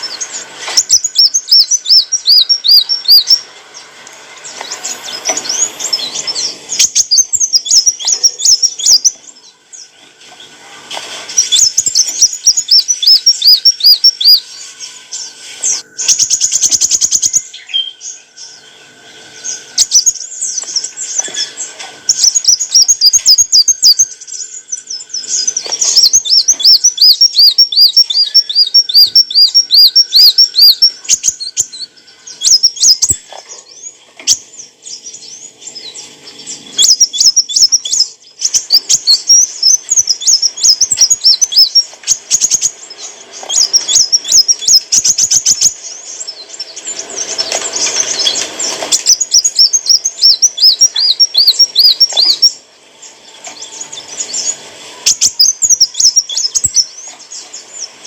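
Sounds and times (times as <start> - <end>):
sunbird singing whistled notes: 0.0 - 10.6, 11.2 - 58.0.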